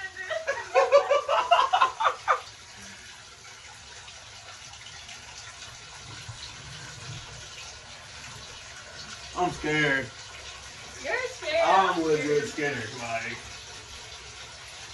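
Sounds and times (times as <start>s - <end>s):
water pouring into bathtub: 0.0s - 14.9s.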